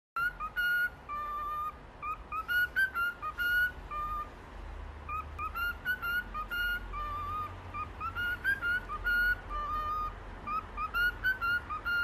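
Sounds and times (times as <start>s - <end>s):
cockatiel whistling a tune: 0.2s - 4.3s, 5.0s - 12.0s.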